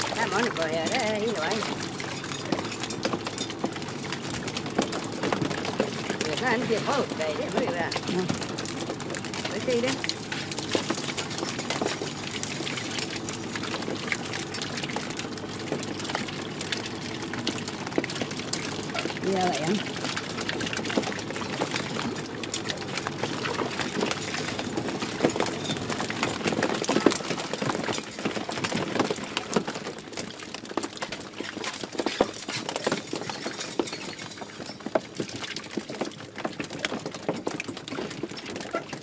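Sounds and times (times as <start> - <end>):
fish flapping in a crate: 0.0 - 39.0.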